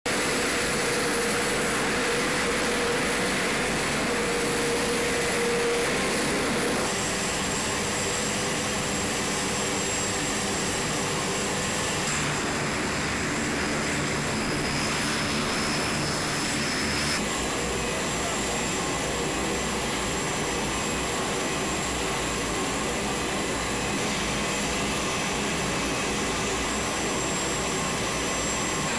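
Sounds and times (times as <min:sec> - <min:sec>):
aircraft engines running: 0:00.0 - 0:28.9
high-pitched whine: 0:00.1 - 0:28.9.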